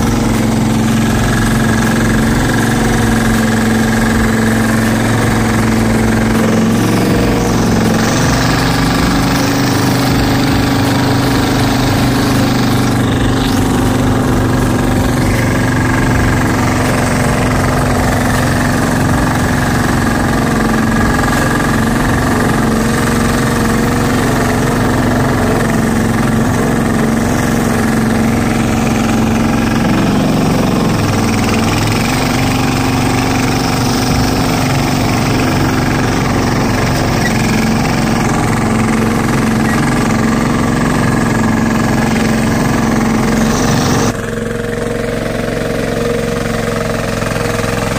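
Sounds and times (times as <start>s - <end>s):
diesel tractor engine knocking: 0.0s - 47.9s.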